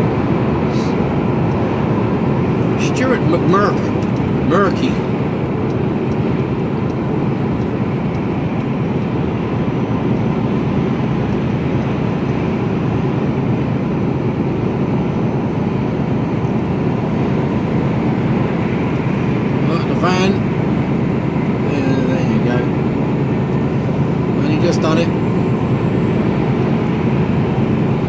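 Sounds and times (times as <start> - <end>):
truck engine and road noise: 0.0 - 28.0.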